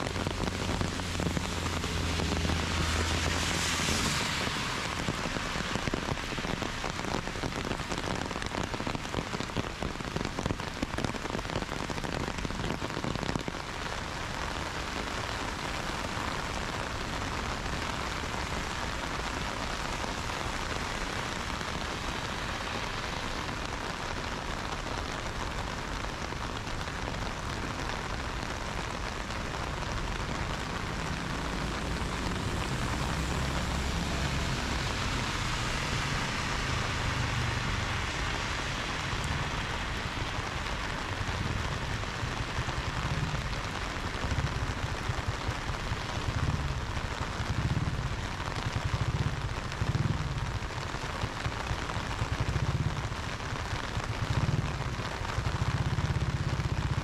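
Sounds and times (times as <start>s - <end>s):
heavy rain on road: 0.0s - 57.0s.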